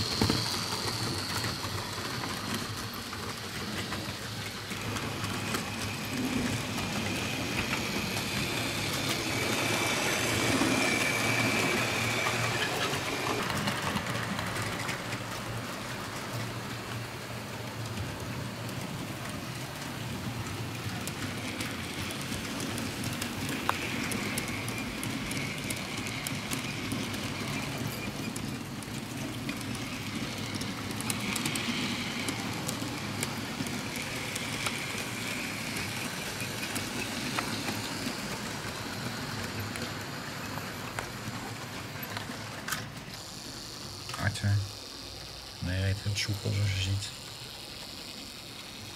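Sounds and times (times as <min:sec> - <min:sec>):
wheels clicking over rail joints: 0:00.0 - 0:43.3.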